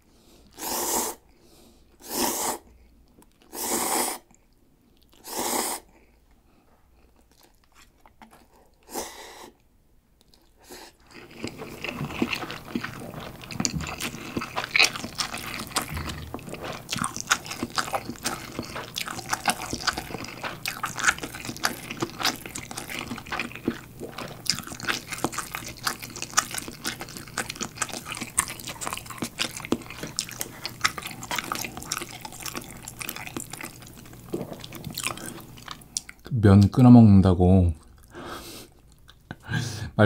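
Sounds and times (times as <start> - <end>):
chewing noodles: 2.0 - 36.3, 37.8 - 39.4.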